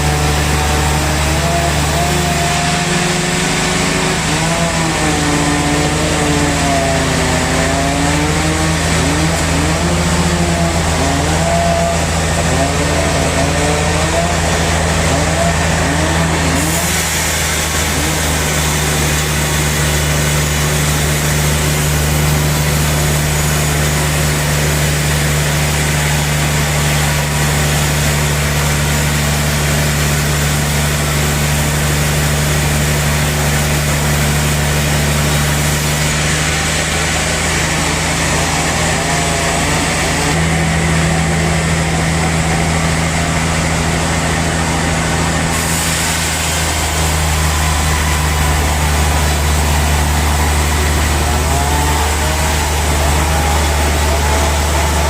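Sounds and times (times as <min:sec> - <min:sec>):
low engine hum: 0:00.0 - 0:55.0
sawmill machinery noise: 0:00.0 - 0:55.0.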